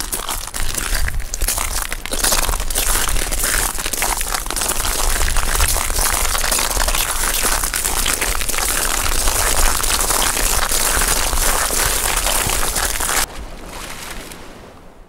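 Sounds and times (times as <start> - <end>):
seashells crunching and rattling: 0.0 - 13.3.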